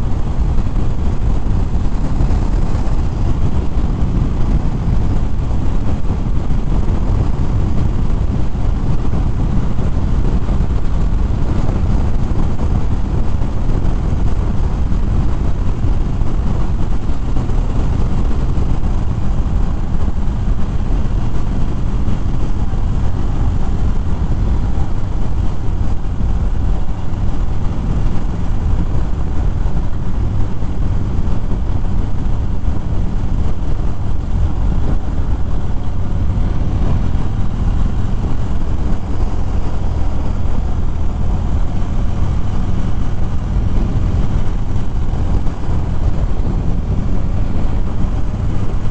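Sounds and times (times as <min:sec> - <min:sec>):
motorcycle engine running: 0:00.0 - 0:48.9
wind rush over microphone: 0:00.0 - 0:48.9.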